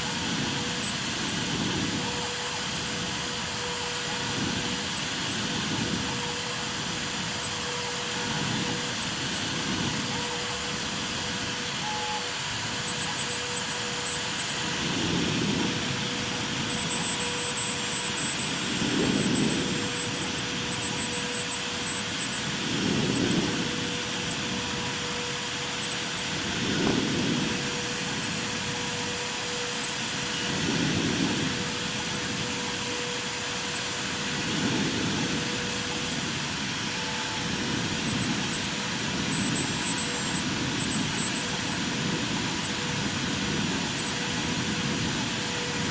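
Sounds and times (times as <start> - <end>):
router spindle high whine: 0.0 - 45.9.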